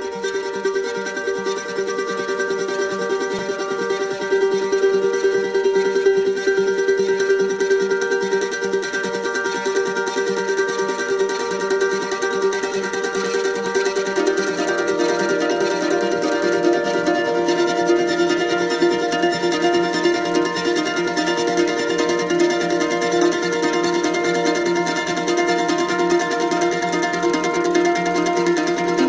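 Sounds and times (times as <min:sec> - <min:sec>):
plucked string tremolo music: 0:00.0 - 0:29.0.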